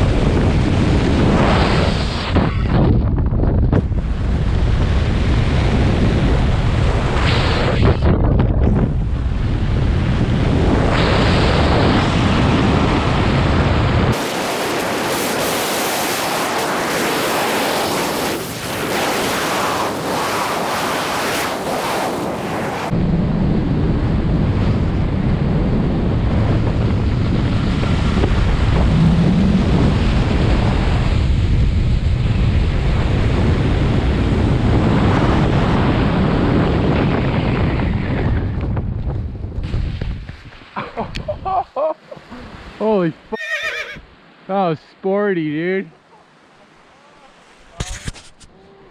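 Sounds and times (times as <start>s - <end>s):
wind buffeting microphone: 0.0s - 41.6s.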